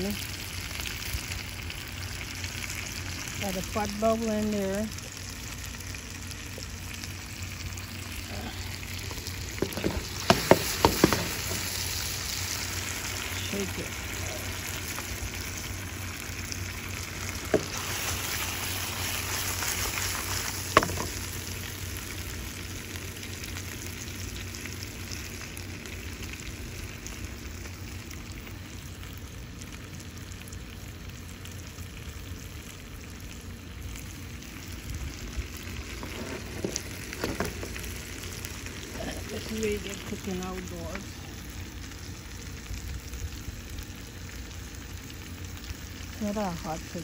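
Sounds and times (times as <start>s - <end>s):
fish sizzling in a pot: 0.0s - 47.0s.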